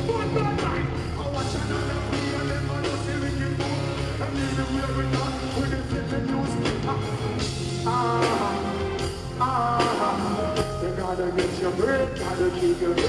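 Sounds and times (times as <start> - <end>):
dancehall music with heavy bass: 0.0 - 13.0.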